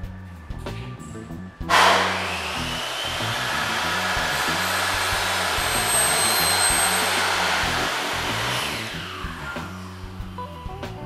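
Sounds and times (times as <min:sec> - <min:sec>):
background music bass line: 0:00.0 - 0:11.0
loud steady rushing noise: 0:01.6 - 0:11.0.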